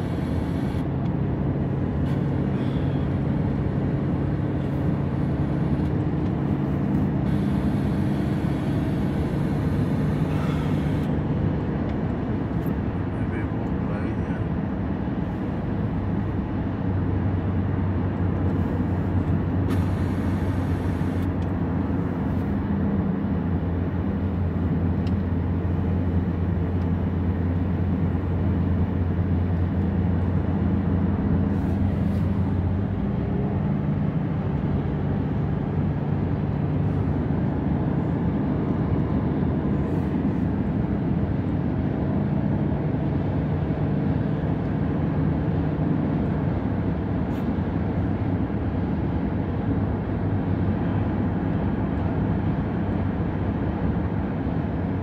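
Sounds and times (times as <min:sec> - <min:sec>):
car engine and tyre drone: 0:00.0 - 0:55.0.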